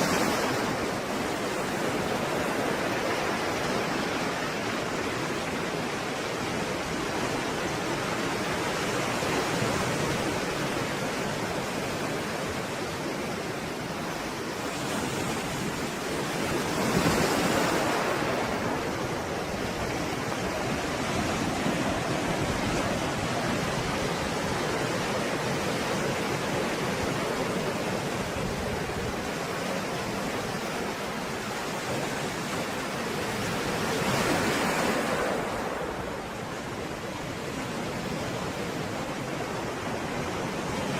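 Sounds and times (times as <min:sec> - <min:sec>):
stormy sea waves: 0:00.0 - 0:40.9.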